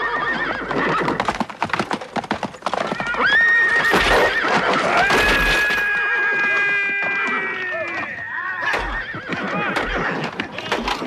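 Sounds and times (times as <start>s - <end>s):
horse whinnying: 0.0s - 1.3s, 2.7s - 11.0s
horse hooves galloping: 0.0s - 11.0s.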